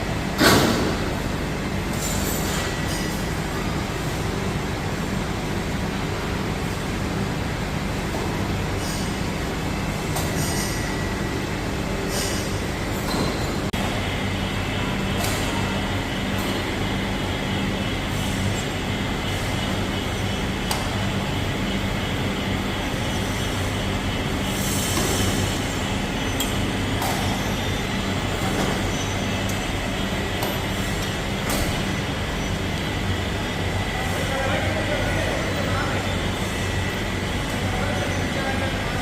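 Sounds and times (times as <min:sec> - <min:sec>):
industrial machinery noise: 0:00.0 - 0:39.0.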